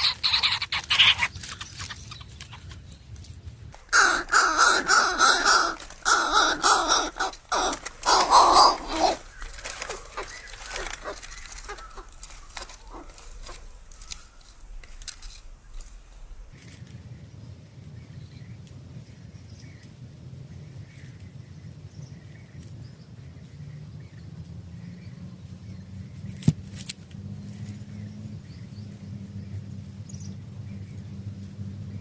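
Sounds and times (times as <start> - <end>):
low hum: 1.3 - 32.0.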